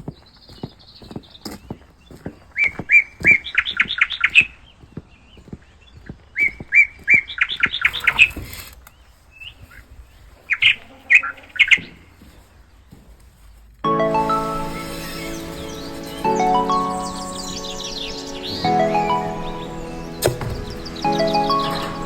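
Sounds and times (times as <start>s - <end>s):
bird singing: 0.0s - 13.1s, 13.8s - 22.0s.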